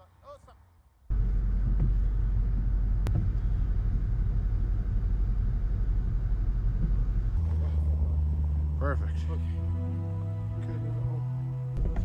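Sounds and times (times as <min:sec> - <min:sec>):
vehicle engine rumble inside cabin: 0:01.1 - 0:12.0.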